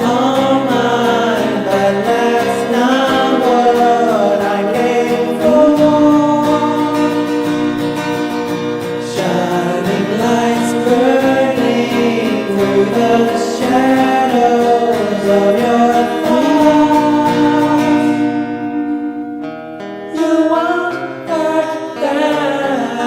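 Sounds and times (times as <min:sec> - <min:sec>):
person singing: 0:00.0 - 0:07.8, 0:08.9 - 0:18.6, 0:20.1 - 0:23.0.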